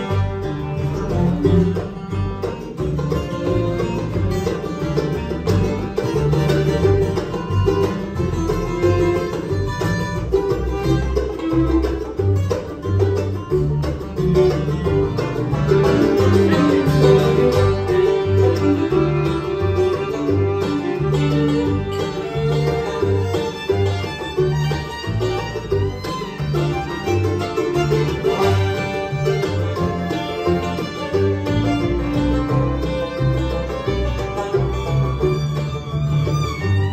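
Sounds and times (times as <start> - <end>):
banjo picking: 0.0 - 36.9
guitar: 0.0 - 36.9
pulsing bass line: 0.0 - 36.9.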